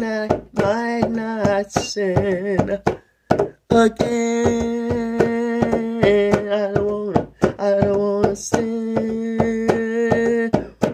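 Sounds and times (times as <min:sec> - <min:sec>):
hand drum: 0:00.0 - 0:10.9.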